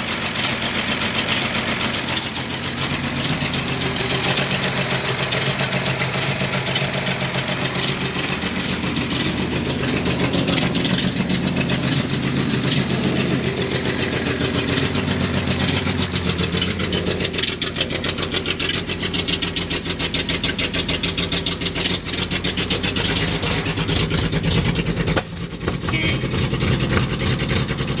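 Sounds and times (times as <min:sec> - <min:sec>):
car engine idling roughly: 0:00.0 - 0:28.0.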